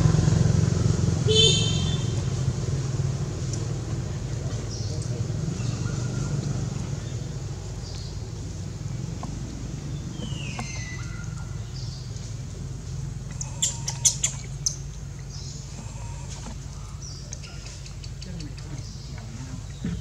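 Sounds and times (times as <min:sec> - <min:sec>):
birds chirping: 0:00.8 - 0:20.0.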